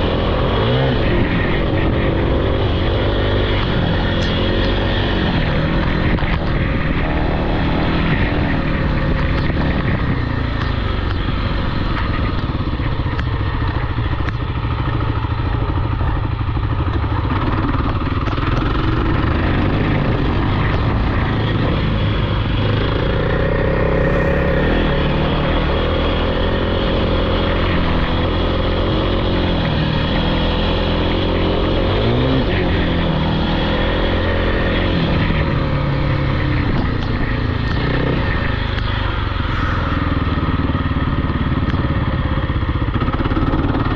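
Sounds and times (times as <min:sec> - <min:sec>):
off-road vehicle engine revving: 0:00.0 - 0:12.5, 0:17.3 - 0:43.9.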